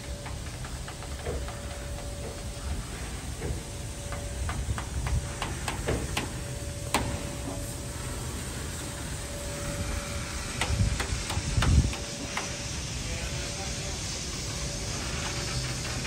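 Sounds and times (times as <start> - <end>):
locomotive low rumble: 0.0 - 16.0
steady hum: 0.0 - 16.0.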